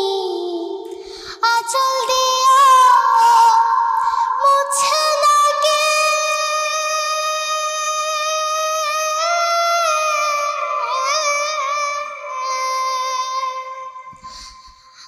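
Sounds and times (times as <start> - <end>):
high solo voice singing: 0.0 - 14.3.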